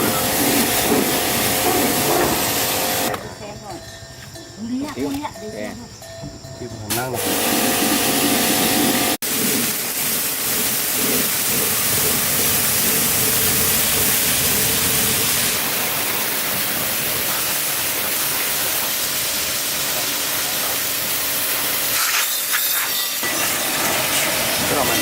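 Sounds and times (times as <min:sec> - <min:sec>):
loud steady hiss: 0:00.0 - 0:03.2, 0:06.8 - 0:25.0.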